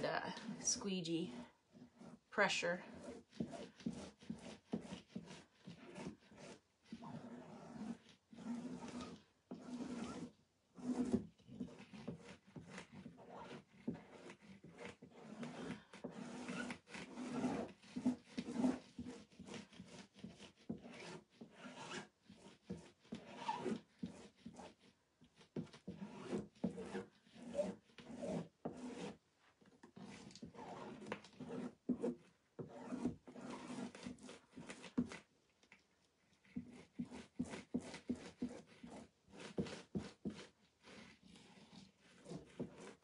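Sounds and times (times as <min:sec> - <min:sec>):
squeegee scraping paste: 0:00.0 - 0:43.0.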